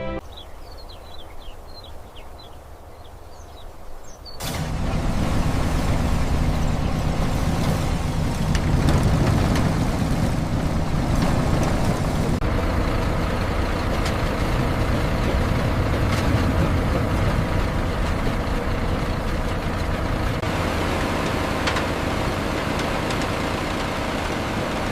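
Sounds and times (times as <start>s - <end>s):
heavy truck engine rumbling: 4.4s - 24.9s.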